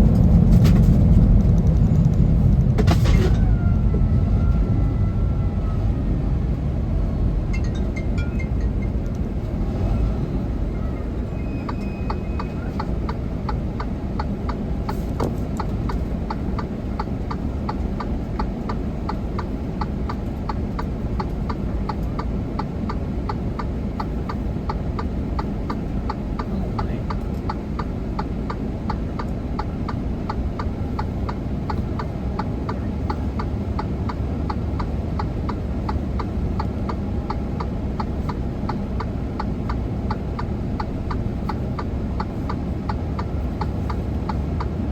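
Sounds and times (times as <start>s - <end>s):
heavy truck rumbling: 0.0s - 44.9s.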